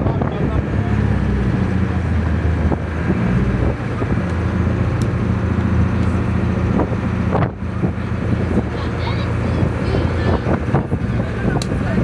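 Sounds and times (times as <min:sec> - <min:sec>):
boat engine humming: 0:00.0 - 0:12.0
rush of wind and water: 0:00.0 - 0:12.0.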